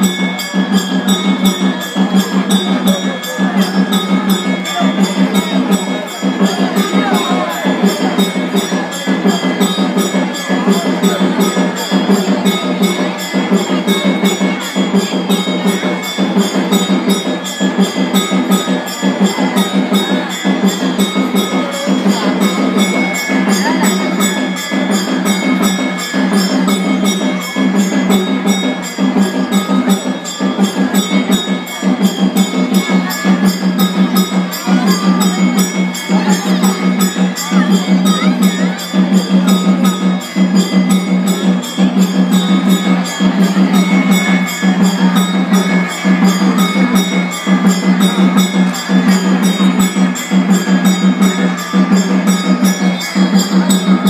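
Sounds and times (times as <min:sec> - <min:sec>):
fast percussion beat: 0:00.0 - 0:54.0
jingling cymbals: 0:00.0 - 0:54.0.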